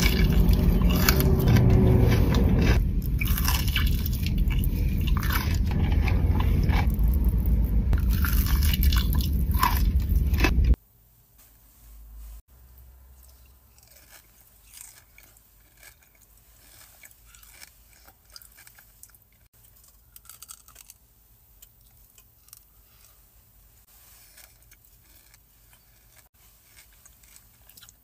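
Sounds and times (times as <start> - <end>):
chocolate bar crunching: 0.0 - 10.8, 13.3 - 22.8, 24.2 - 28.0.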